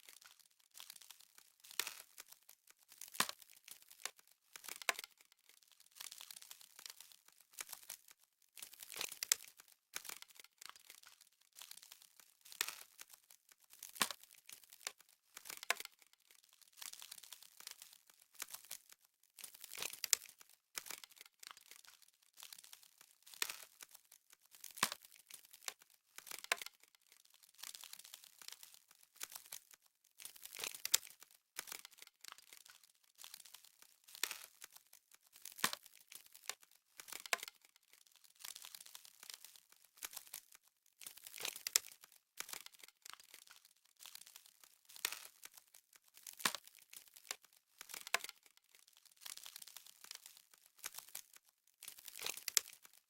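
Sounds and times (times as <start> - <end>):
frost crackling and crinkling: 0.0 - 53.0.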